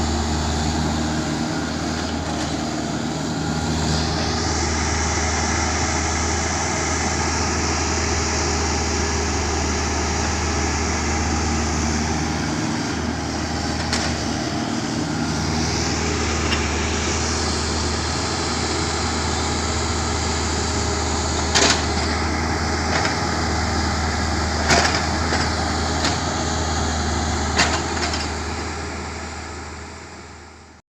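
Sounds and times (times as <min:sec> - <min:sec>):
excavator diesel engine running: 0:00.0 - 0:30.8.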